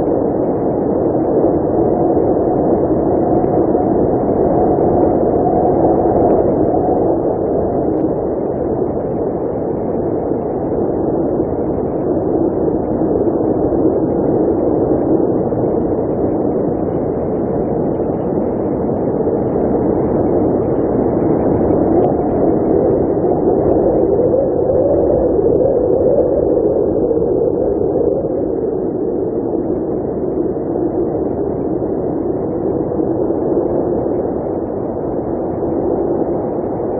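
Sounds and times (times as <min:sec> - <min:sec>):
blizzard wind blowing: 0:00.0 - 0:36.9.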